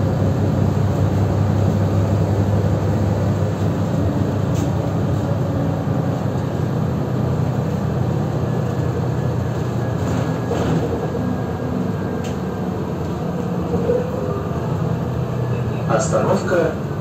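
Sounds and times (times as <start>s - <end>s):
bus engine drone: 0.0s - 17.0s
road and tyre noise: 0.0s - 17.0s.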